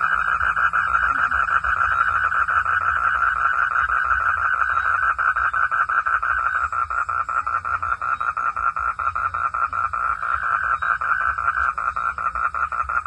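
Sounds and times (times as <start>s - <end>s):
chorus of frogs calling: 0.0s - 13.0s.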